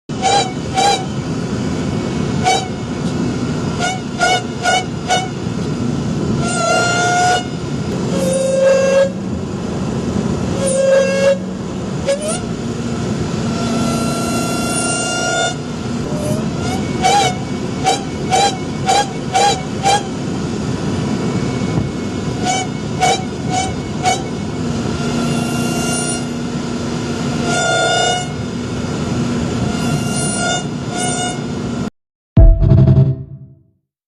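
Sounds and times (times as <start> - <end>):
supercharger whine: 0.1 - 30.9.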